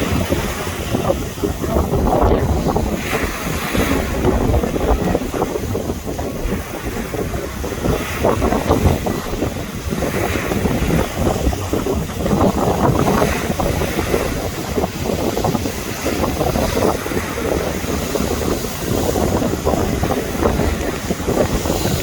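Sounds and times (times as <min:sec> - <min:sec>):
sea waves washing onto beach: 0:00.0 - 0:22.0
wind buffeting microphone: 0:00.0 - 0:22.0.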